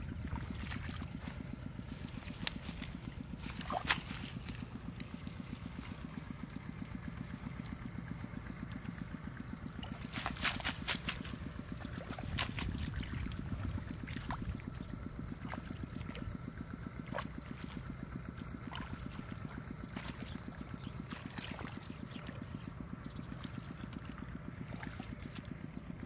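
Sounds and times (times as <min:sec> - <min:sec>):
water splashing: 0:00.0 - 0:06.3, 0:09.8 - 0:16.4, 0:17.0 - 0:25.6
small engine running: 0:00.0 - 0:26.0
sharp splashes and clicks: 0:00.2 - 0:07.8, 0:09.8 - 0:16.4, 0:17.0 - 0:25.6.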